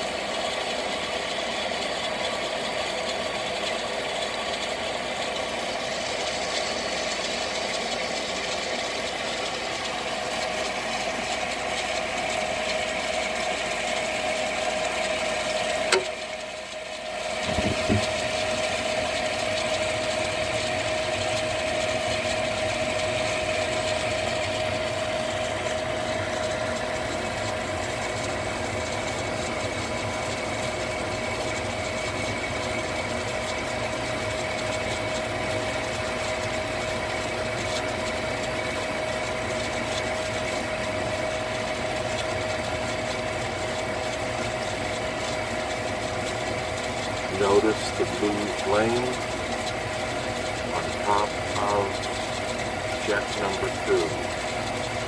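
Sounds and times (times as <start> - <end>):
gas furnace hum: 2.7 - 55.0.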